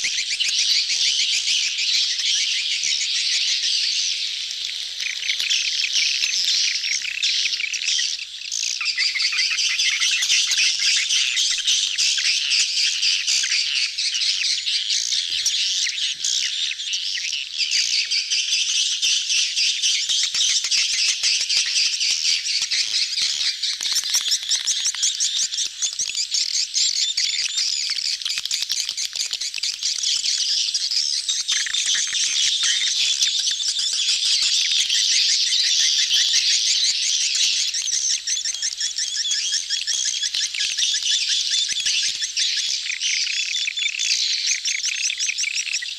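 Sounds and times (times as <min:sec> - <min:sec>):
swiftlets chirping and twittering: 0:00.0 - 0:45.9.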